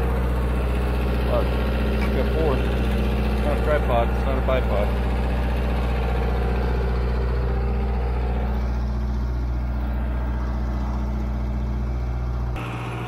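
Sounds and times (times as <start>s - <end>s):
stump grinder engine running: 0.0s - 13.0s.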